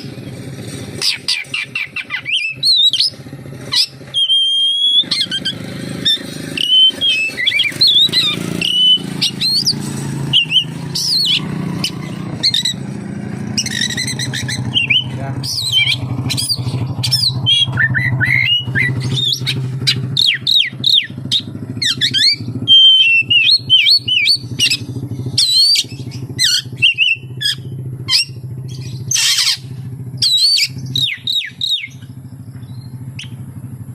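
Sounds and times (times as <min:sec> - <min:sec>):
magpie-robin singing: 0:00.0 - 0:33.5
steady low hum: 0:02.0 - 0:33.9.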